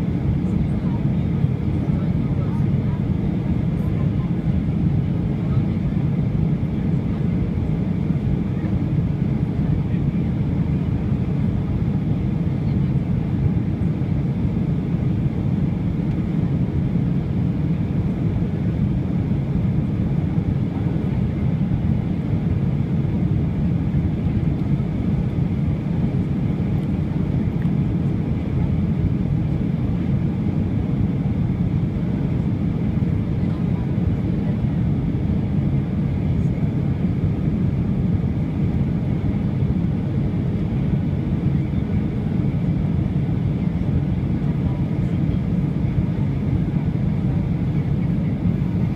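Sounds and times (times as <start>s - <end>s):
jet engine cabin rumble: 0.0s - 48.9s.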